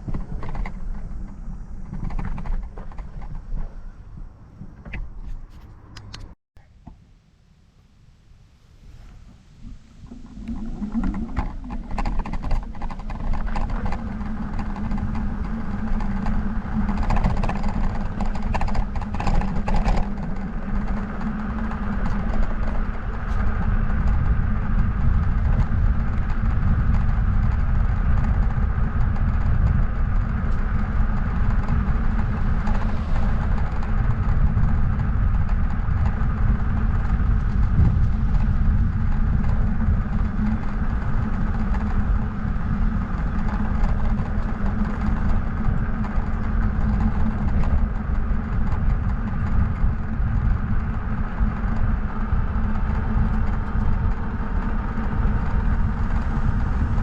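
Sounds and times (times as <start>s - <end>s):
bike riding rumble: 0.0s - 57.0s.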